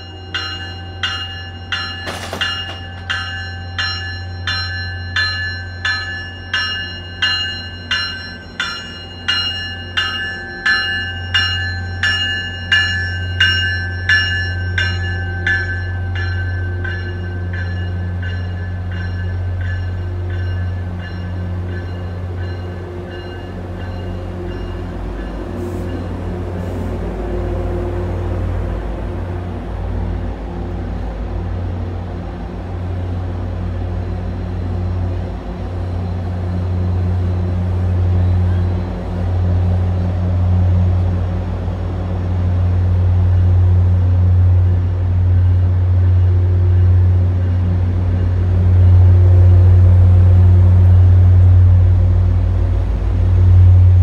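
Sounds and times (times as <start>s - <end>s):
train bell ringing: 0.0s - 26.8s, 32.8s - 41.0s, 42.2s - 52.5s
low hum of stopped train: 0.0s - 54.0s.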